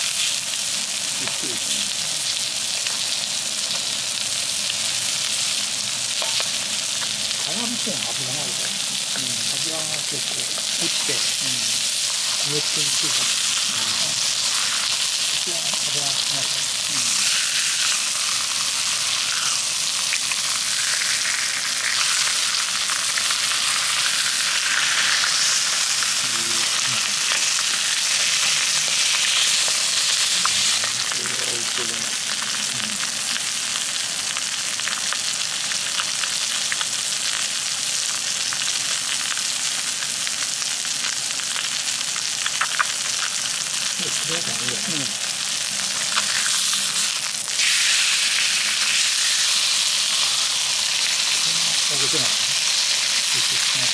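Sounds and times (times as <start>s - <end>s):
chicken sizzling on griddle: 0.0s - 53.9s.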